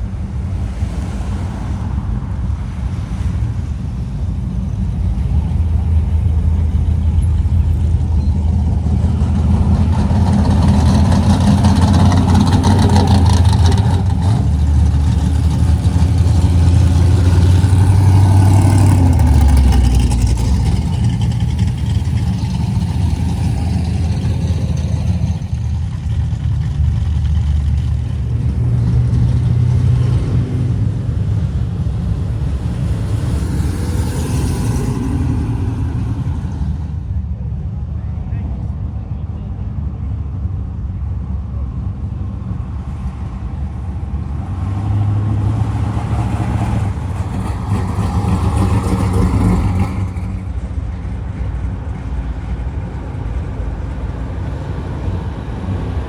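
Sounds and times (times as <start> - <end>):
cars driving past rumbling: 0.0 - 56.0.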